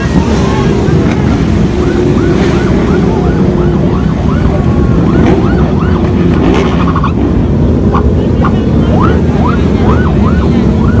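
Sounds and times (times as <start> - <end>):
motorcycle engines: 0.0 - 11.0
police siren yelping: 0.0 - 11.0.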